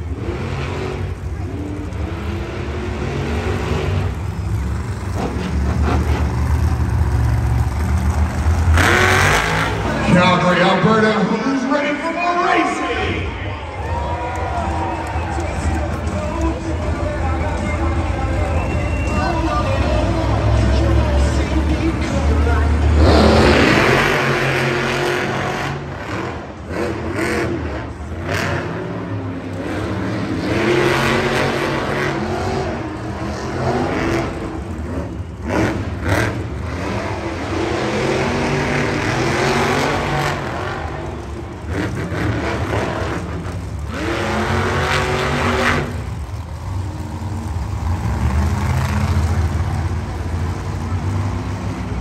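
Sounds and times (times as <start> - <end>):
monster truck engines revving: 0.0 - 52.0.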